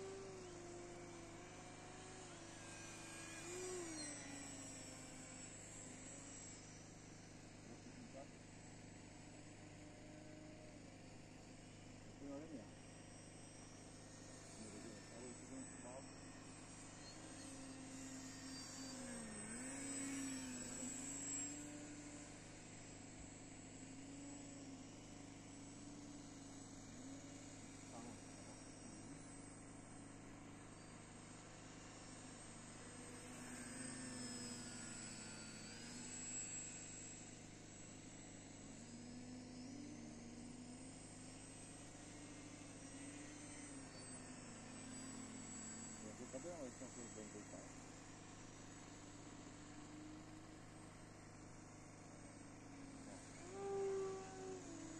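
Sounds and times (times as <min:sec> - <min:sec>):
model plane motor drone: 0:00.0 - 0:54.9.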